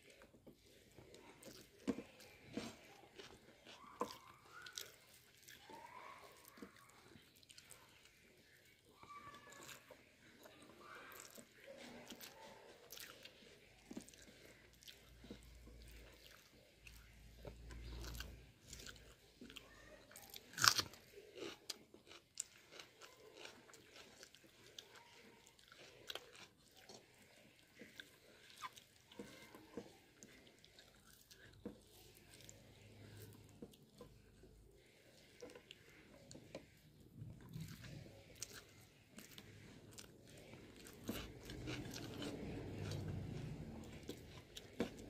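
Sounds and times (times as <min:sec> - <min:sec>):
person chewing and eating: 0:00.0 - 0:45.0.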